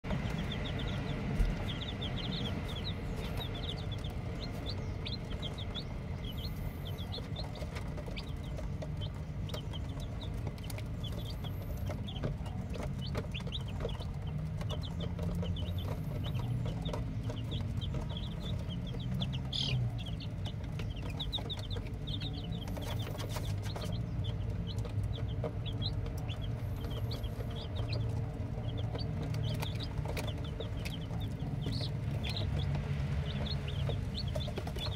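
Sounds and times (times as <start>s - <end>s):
chicks peeping: 0.0s - 34.9s
steady low rumble: 0.0s - 34.9s.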